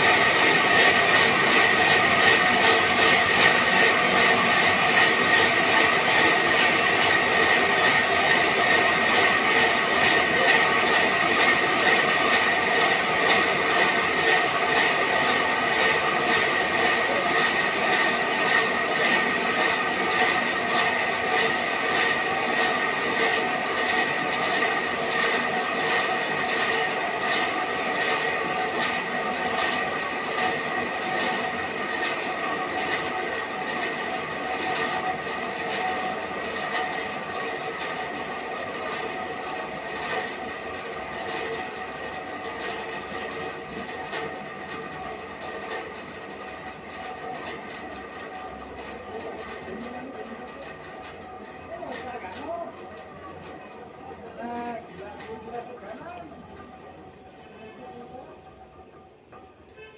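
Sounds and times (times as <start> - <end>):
band saw machine running: 0.0 - 59.9.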